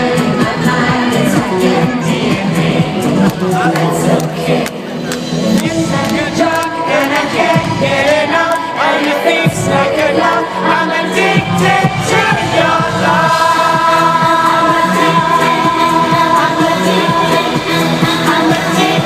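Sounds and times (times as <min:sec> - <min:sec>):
pop song with singing: 0:00.0 - 0:19.0.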